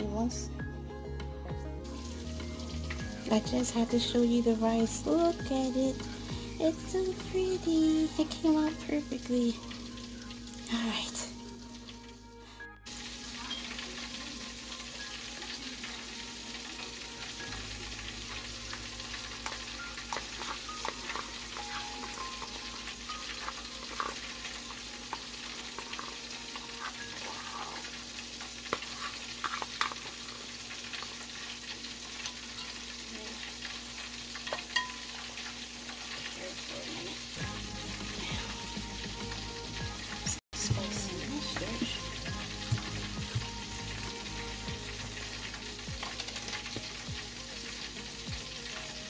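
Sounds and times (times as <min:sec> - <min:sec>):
oil popping and crackling: 0:01.8 - 0:12.2, 0:12.9 - 0:49.0
chicken sizzling in hot oil: 0:01.8 - 0:49.0.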